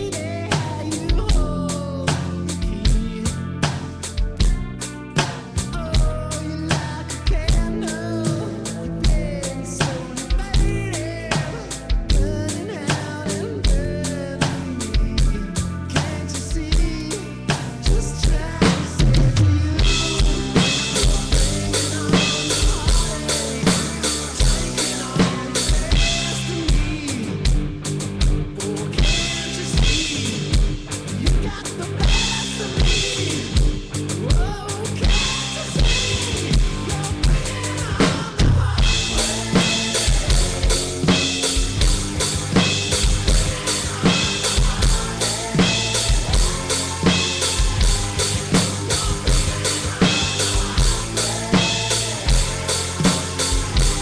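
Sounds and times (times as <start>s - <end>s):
electronic drum kit rock beat: 0.0s - 54.0s
rock song playing: 0.0s - 54.0s.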